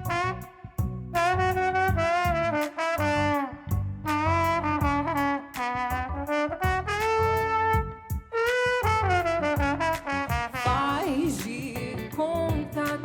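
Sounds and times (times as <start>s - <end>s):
steady drum beat: 0.0s - 3.1s, 3.7s - 13.0s
brass melody: 0.0s - 11.4s
bass: 0.0s - 13.0s.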